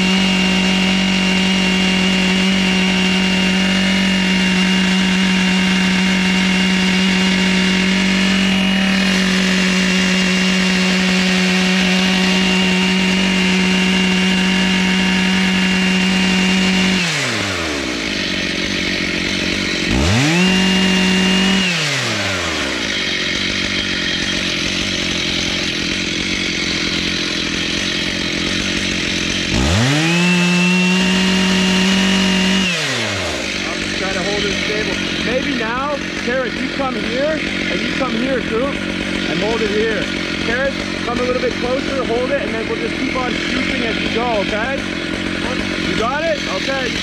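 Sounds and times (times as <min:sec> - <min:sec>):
chainsaw revving and idling: 0:00.0 - 0:47.0.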